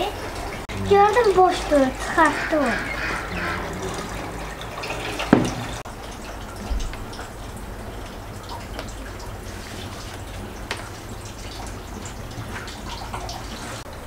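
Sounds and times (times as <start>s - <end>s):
liquid trickling and dripping: 0.0s - 14.0s.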